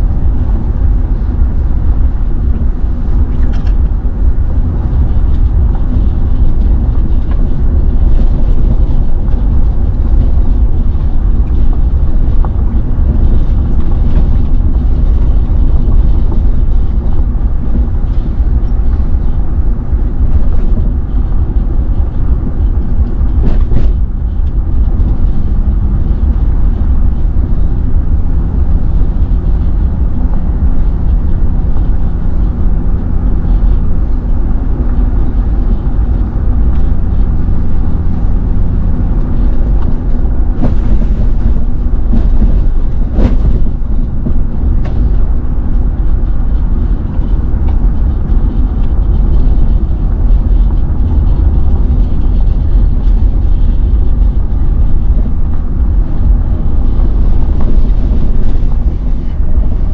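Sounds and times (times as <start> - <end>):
car road noise and engine rumble: 0.0 - 59.9.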